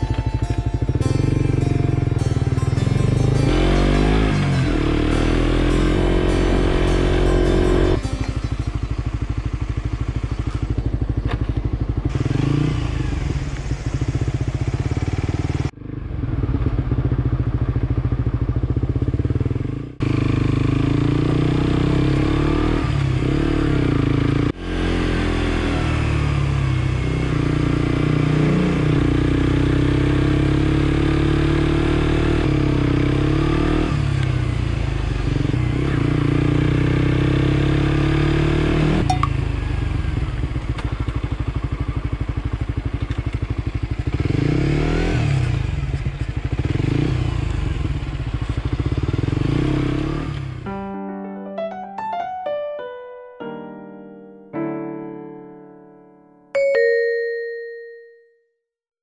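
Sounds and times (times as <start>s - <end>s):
motorcycle engine revving: 0.0s - 50.7s.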